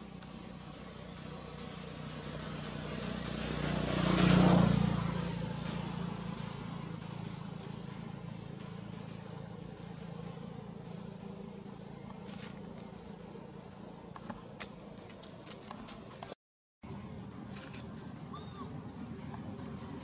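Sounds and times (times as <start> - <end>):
motor vehicle passing by: 0.0 - 20.0.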